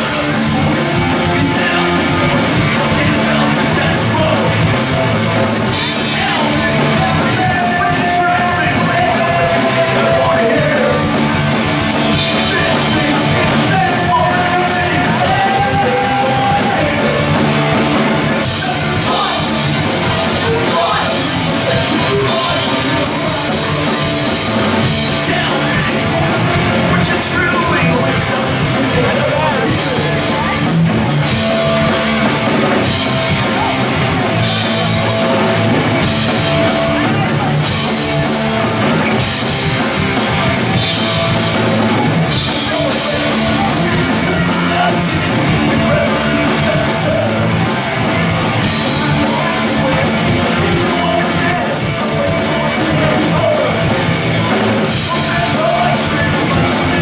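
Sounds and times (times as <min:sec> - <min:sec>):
punk band playing live: 0:00.0 - 0:57.0
vocalist singing and yelling: 0:00.0 - 0:57.0.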